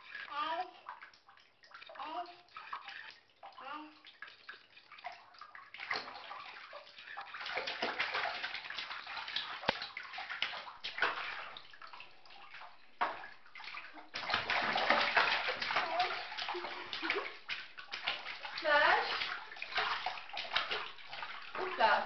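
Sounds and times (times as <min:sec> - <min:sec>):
bathwater splashing: 0:00.0 - 0:22.0.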